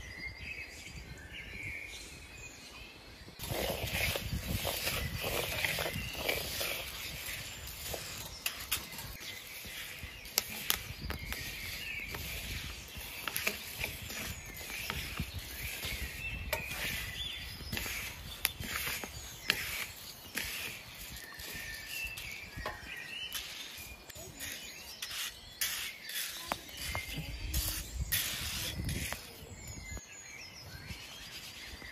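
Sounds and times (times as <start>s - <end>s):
grain rustling in a pan: 3.4s - 30.0s.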